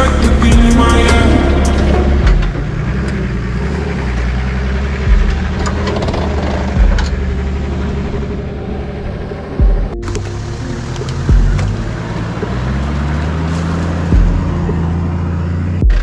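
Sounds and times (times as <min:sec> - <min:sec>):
low thumps: 0:00.0 - 0:03.5, 0:04.9 - 0:13.2, 0:14.0 - 0:16.0
truck engine running: 0:00.0 - 0:16.0.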